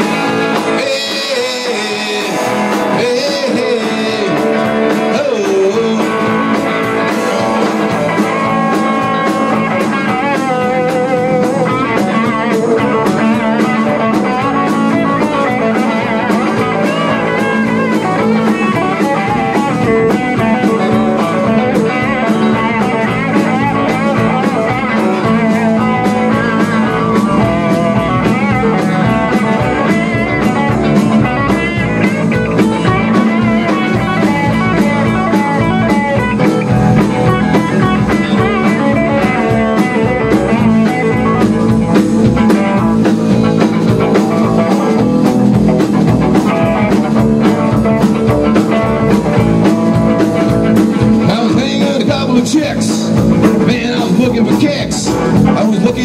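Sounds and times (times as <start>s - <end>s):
bending lead guitar notes: 0.0s - 56.0s
rock band playing live: 0.0s - 56.0s.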